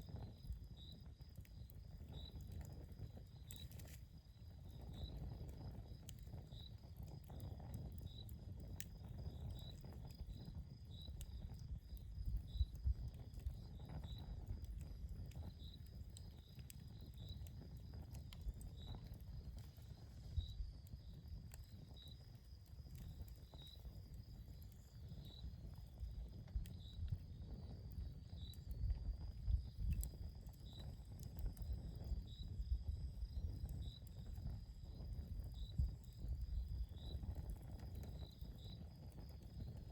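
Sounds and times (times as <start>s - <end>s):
campfire crackling and popping: 0.0s - 39.9s
cricket chirping: 0.0s - 39.9s.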